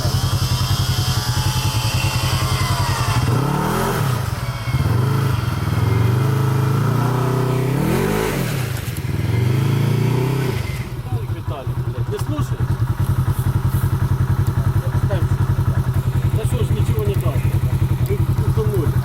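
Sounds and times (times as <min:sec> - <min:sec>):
buggy engine revving: 0:00.0 - 0:19.0.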